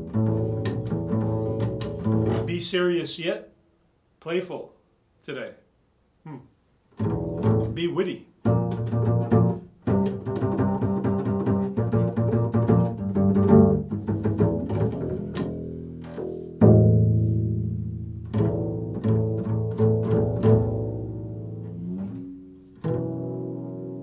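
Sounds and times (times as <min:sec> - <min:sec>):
double bass plucked: 0:00.0 - 0:02.8, 0:06.3 - 0:24.0.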